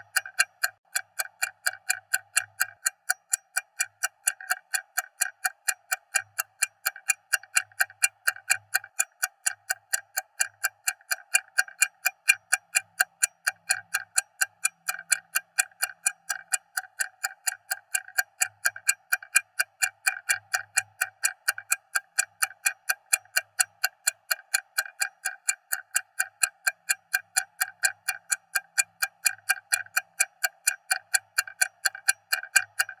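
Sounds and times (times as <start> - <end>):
stopwatch ticking: 0.0 - 33.0.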